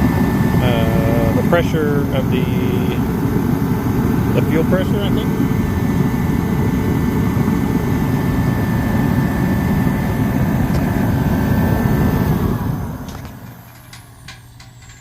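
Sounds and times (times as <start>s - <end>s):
fan whine: 0.0s - 15.0s
heater burner and fan roaring: 0.0s - 15.0s.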